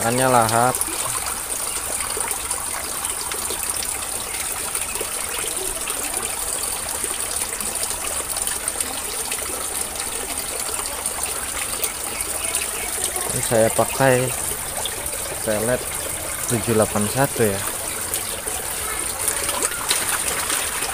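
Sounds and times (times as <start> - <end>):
water drops ticking: 0.0 - 20.9
water streams splashing into pond: 0.0 - 20.9.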